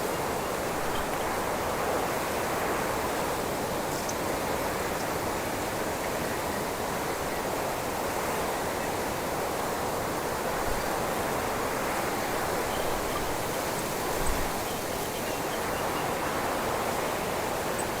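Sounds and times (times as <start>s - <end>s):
wind rushing through branches: 0.0s - 18.0s.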